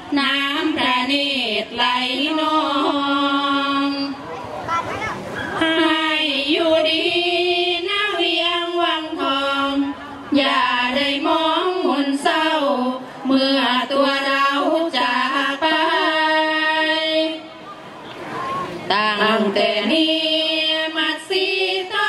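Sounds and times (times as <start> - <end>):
woman chanting into a microphone: 0.0 - 4.2, 5.6 - 17.4, 18.9 - 22.0.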